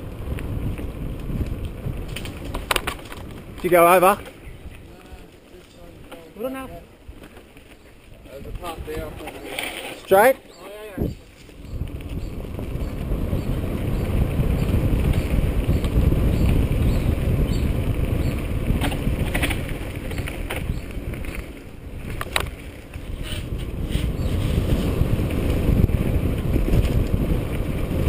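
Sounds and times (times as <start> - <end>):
wind on microphone: 0.0 - 7.2, 8.0 - 9.5, 10.7 - 28.0
bike clicks and rattles: 0.0 - 10.3, 11.1 - 28.0
bike tyres rumbling on dirt: 0.0 - 28.0.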